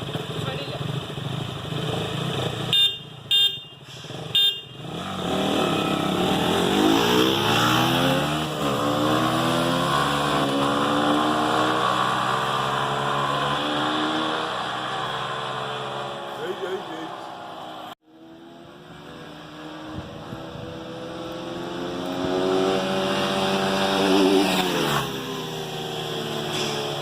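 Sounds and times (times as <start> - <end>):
motorcycle engine accelerating: 0.0 - 3.3, 4.0 - 27.0.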